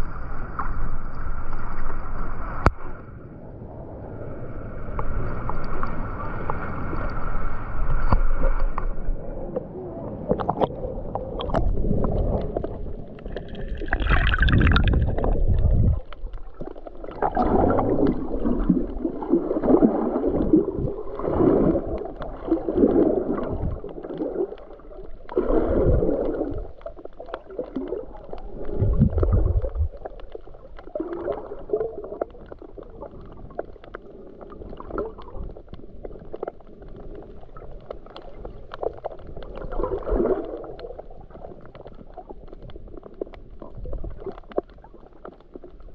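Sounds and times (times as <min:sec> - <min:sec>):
underwater water gurgling: 0:00.0 - 0:45.9.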